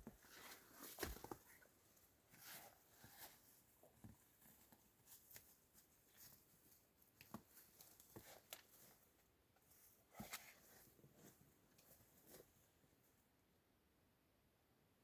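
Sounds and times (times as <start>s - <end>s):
soft rustles: 0.0s - 13.2s.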